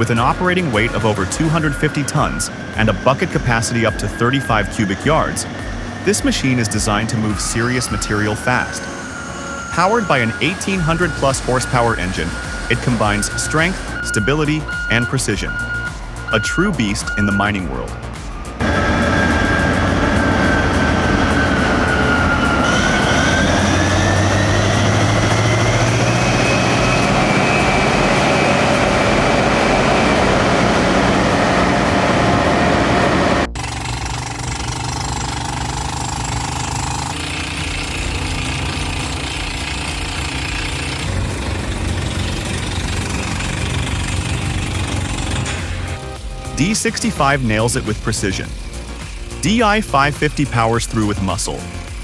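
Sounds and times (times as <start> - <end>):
bulldozer diesel engine rattling: 0.0 - 52.0
earthmoving machine running: 0.0 - 52.0
high machine whine: 0.0 - 52.0.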